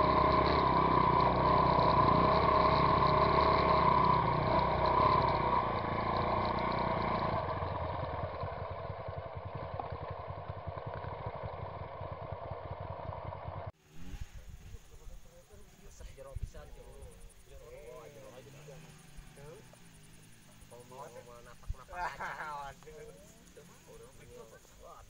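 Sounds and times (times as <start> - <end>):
dirt bike engine: 0.0 - 25.0.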